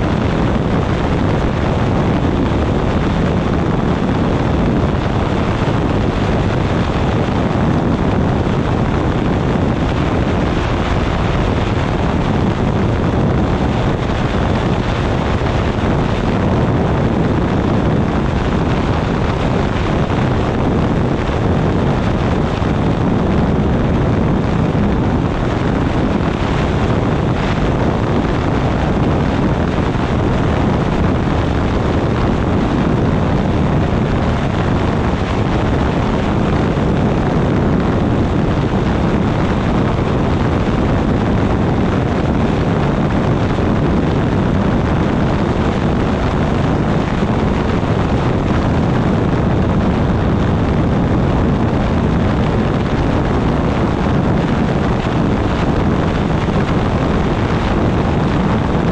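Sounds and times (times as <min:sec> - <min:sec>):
aircraft engine and propeller drone: 0:00.0 - 0:58.9
wind buffeting microphone: 0:00.0 - 0:58.9.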